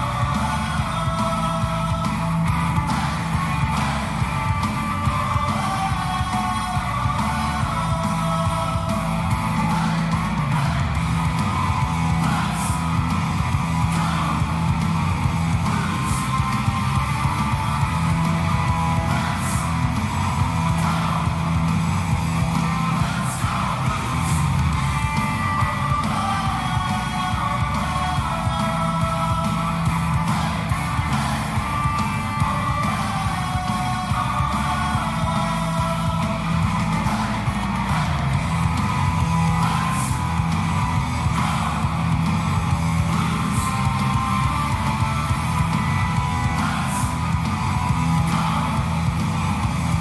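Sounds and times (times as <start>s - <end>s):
heavy drums: 0.0s - 50.0s
rock music with electric guitar: 0.0s - 50.0s
shouted vocals: 0.0s - 50.0s.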